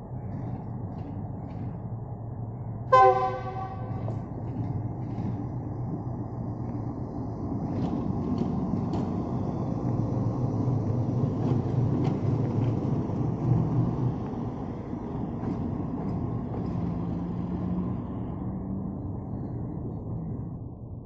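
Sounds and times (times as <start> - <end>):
wheels clicking on track: 0.0 - 20.5
locomotive engine droning: 0.0 - 21.0.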